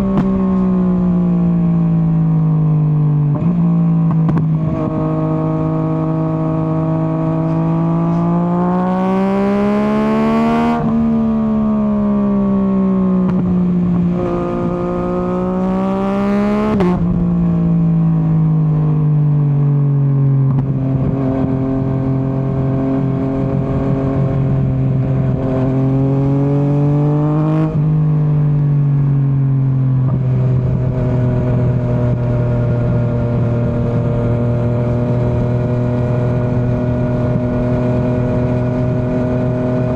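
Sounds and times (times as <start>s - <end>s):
motorcycle engine revving: 0.0s - 19.0s, 20.4s - 28.3s, 29.6s - 39.9s.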